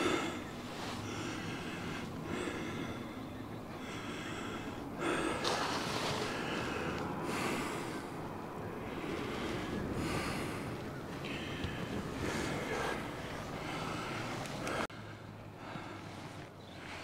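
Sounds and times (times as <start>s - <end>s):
person breathing heavily: 0.0s - 17.0s.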